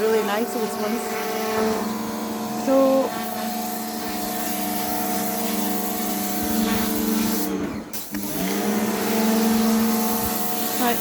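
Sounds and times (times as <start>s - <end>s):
pressure washer running: 0.0s - 11.0s.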